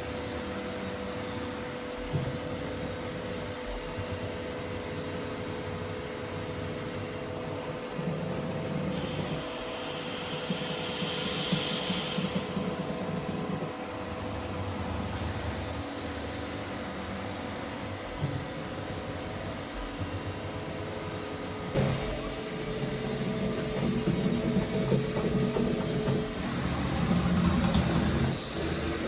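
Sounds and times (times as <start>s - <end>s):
grinding machine hum: 0.0s - 29.0s
machine hiss: 0.1s - 29.0s.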